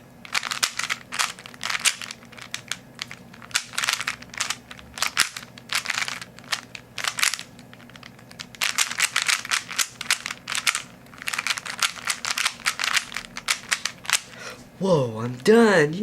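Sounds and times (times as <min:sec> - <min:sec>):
puzzle cube plastic clacking: 0:00.2 - 0:14.4.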